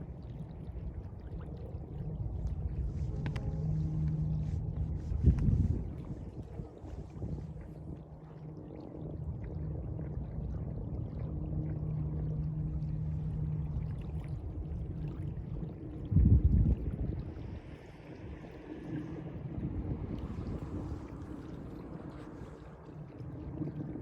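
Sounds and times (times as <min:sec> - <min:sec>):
low steady hum: 0:00.0 - 0:24.0
sea water sloshing: 0:00.0 - 0:24.0
wind buffeting microphone: 0:00.0 - 0:24.0.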